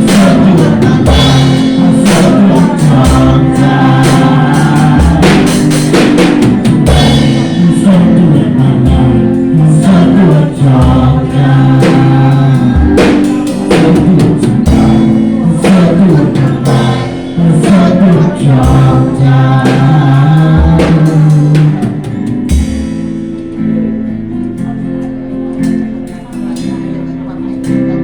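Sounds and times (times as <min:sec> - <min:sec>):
people singing: 0:00.0 - 0:22.9
drum hits: 0:00.0 - 0:23.3
worship band playing: 0:00.0 - 0:28.0.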